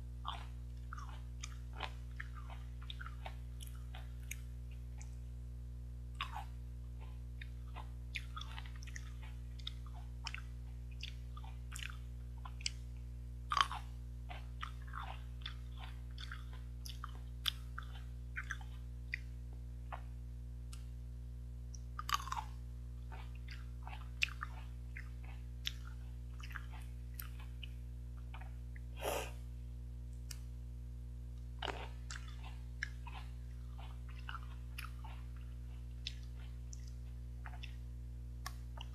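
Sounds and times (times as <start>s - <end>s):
steady low hum: 0.0s - 38.9s
person chewing grapes: 0.2s - 5.3s, 6.1s - 21.0s, 21.7s - 29.5s, 30.1s - 30.6s, 31.3s - 38.9s.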